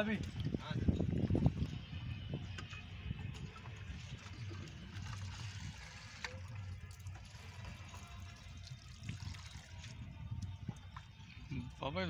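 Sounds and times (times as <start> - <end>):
water trickling and gurgling: 0.2 - 12.0.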